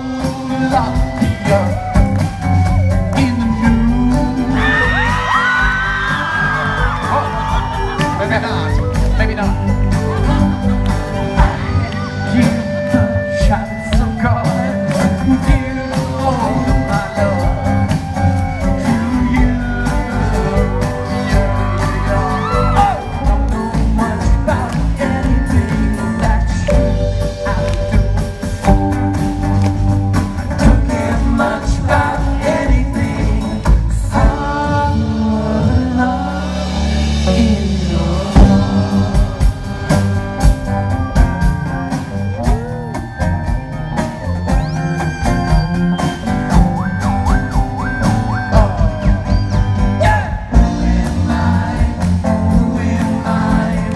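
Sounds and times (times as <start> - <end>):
person singing: 0.0 - 28.7, 30.6 - 41.0, 47.8 - 53.9
drum kit beat: 0.0 - 53.9
live band playing: 0.0 - 53.9.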